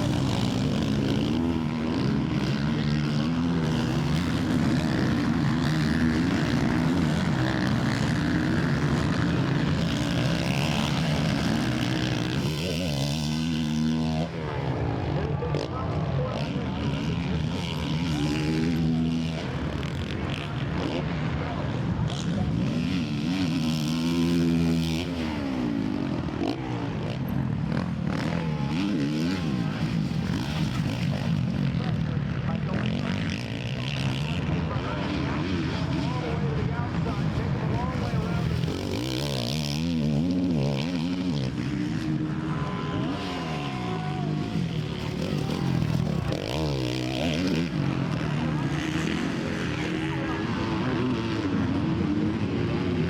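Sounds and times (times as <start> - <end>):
motorbike engines revving: 0.0 - 53.0.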